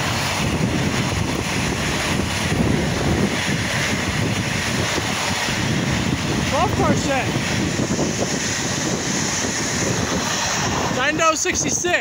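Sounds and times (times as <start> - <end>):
train passing at speed: 0.0 - 12.0
wind buffeting microphone: 0.0 - 12.0.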